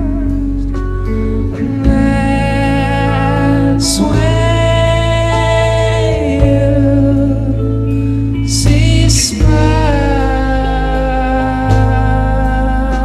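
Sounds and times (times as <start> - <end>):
rock band playing slow song: 0.0 - 13.0.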